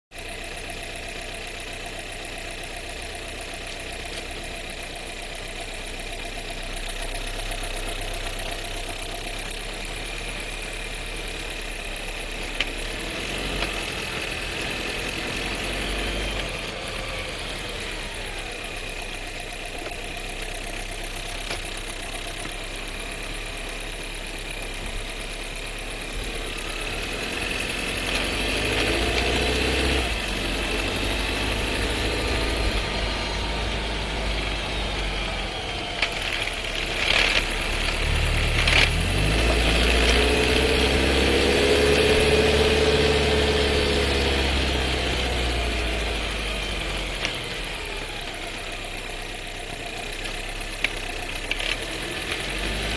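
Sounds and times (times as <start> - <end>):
car engine and road noise: 0.1 - 52.9
transmission clunks and rattle: 2.4 - 52.9.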